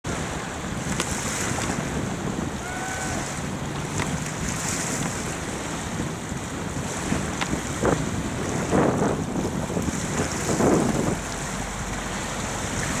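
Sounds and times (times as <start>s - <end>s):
choppy water: 0.0s - 13.0s
wind buffeting microphone: 0.1s - 13.0s.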